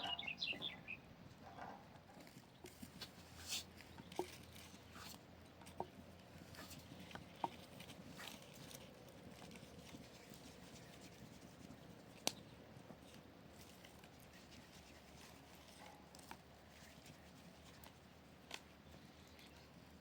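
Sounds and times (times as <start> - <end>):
faint outdoor ambience: 0.0 - 20.0.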